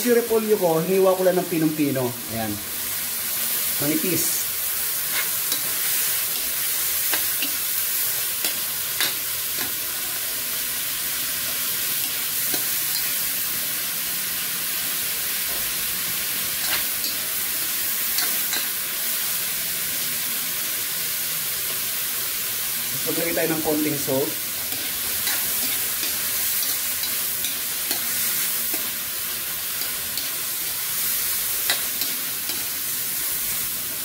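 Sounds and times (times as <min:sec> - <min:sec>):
vegetables sizzling in a wok: 0:00.0 - 0:34.0.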